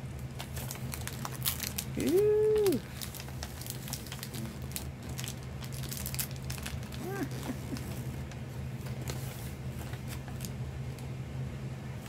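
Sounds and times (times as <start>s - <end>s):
plastic wrapper crinkling: 0.2s - 10.5s.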